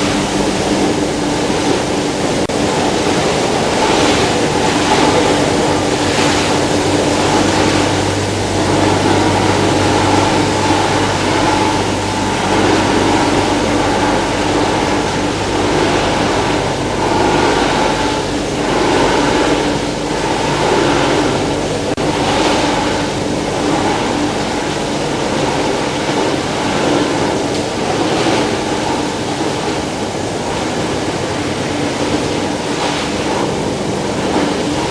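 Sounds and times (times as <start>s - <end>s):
loud rushing water-like noise: 0.0s - 34.9s
steady machine hum: 0.0s - 34.9s.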